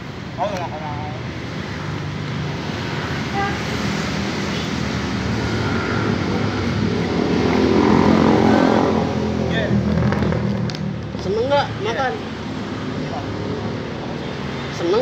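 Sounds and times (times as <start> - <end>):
passing vehicle engine: 1.4 - 15.0.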